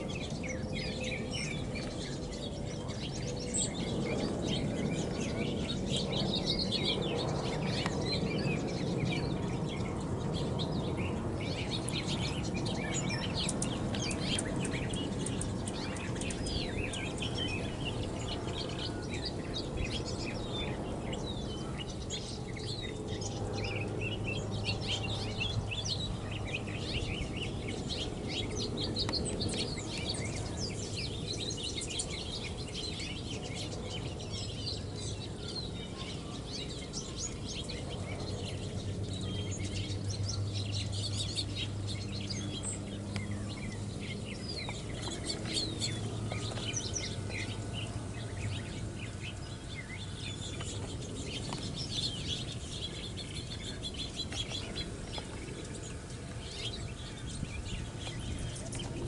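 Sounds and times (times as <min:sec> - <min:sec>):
songbirds chirping: 0:00.0 - 0:59.0
steady low hum: 0:00.0 - 0:59.0.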